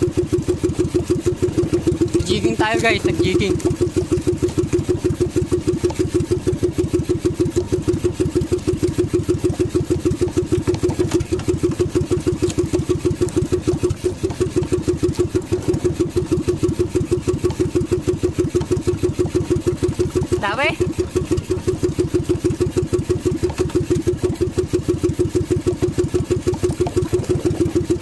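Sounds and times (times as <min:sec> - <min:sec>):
small boat engine running: 0:00.0 - 0:28.0.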